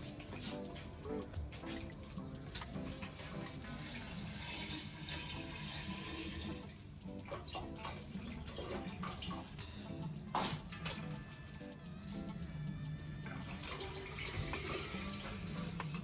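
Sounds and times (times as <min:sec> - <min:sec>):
tap water running into sink: 0:00.0 - 0:11.2, 0:13.0 - 0:16.0.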